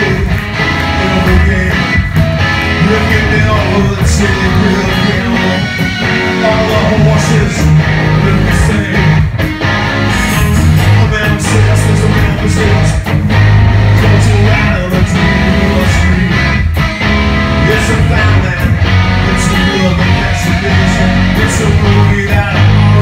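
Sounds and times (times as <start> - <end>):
man singing into a microphone: 0.0 - 2.1, 2.7 - 9.3, 10.1 - 13.1, 14.0 - 16.6, 17.6 - 23.0
bass guitar: 0.0 - 23.0
distorted electric guitars: 0.0 - 23.0
drums: 0.0 - 23.0.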